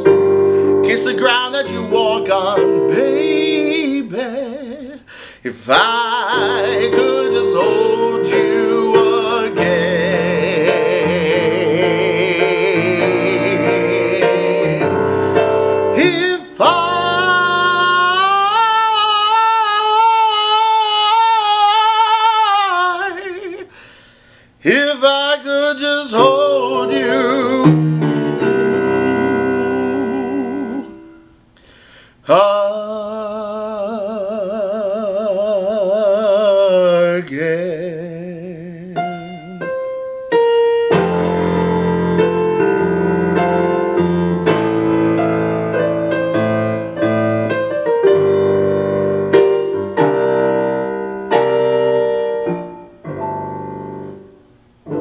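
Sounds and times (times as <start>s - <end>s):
piano chords: 0.0s - 23.6s, 24.7s - 31.5s, 32.3s - 55.0s
person singing with vibrato: 0.0s - 55.0s.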